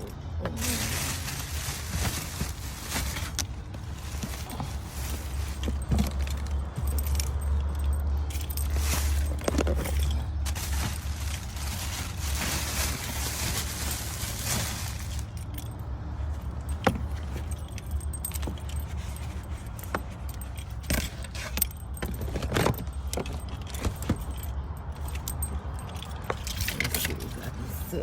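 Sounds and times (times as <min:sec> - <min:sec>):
small objects clinking and rattling: 0:00.0 - 0:27.9.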